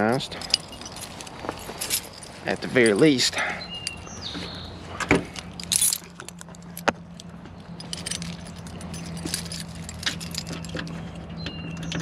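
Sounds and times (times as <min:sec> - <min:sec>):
keys jangling on a ring: 0:00.0 - 0:04.2, 0:05.3 - 0:11.2.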